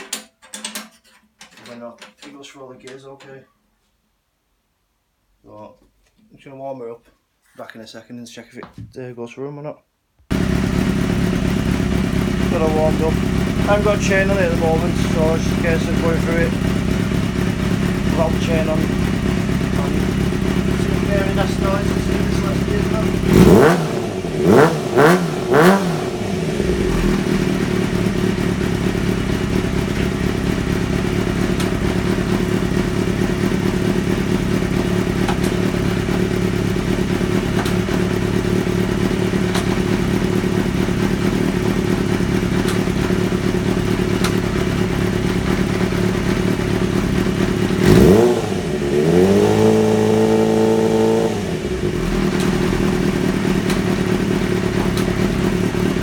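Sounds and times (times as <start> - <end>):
motorcycle engine revving and idling: 10.3 - 56.0.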